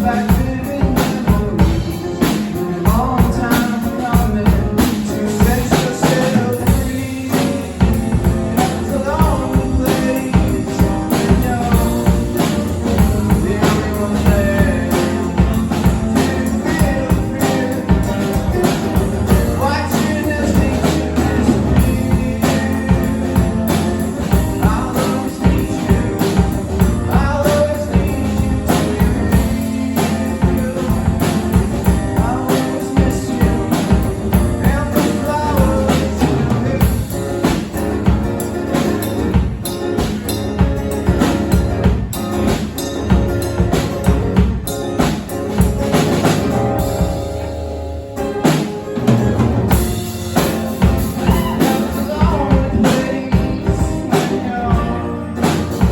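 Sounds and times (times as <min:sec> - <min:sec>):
drum kit hits: 0:00.0 - 0:55.9
rock guitar: 0:00.0 - 0:55.9.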